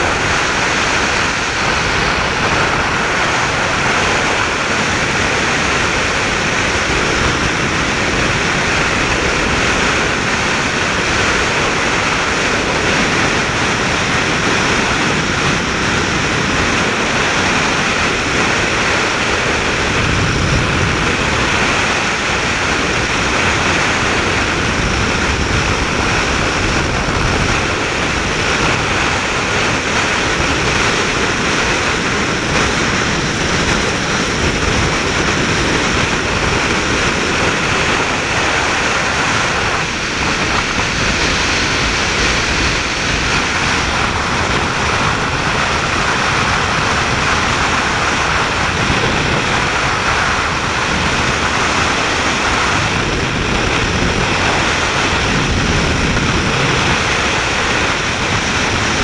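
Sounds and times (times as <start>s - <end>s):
tyre and engine noise: 0.0s - 59.0s
wind hitting microphone: 0.0s - 59.0s.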